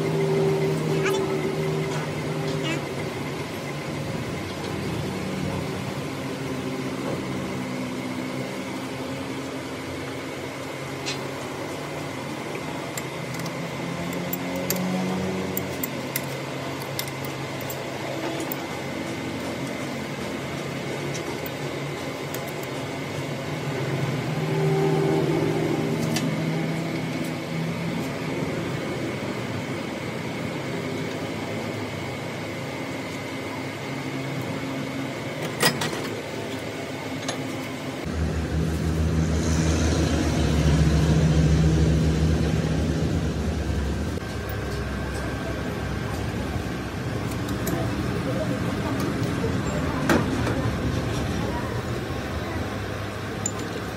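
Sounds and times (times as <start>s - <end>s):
high-pitched whine: 0.0s - 35.8s, 37.7s - 53.9s
metal lathe running: 0.0s - 53.9s.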